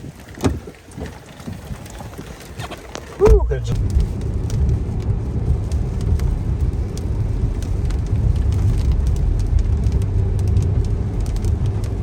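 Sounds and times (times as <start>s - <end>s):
car road and engine rumble: 0.0s - 12.0s
raindrops ticking on car: 0.1s - 12.0s.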